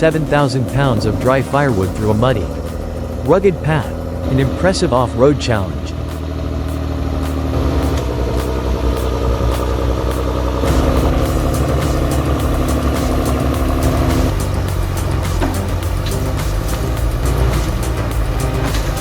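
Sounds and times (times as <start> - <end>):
tractor engine straining: 0.0 - 19.0.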